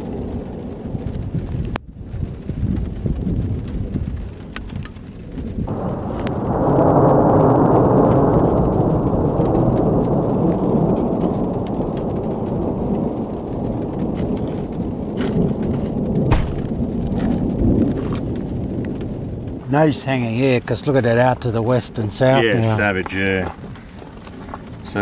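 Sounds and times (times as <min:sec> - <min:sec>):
roll of thunder: 0:00.0 - 0:23.9.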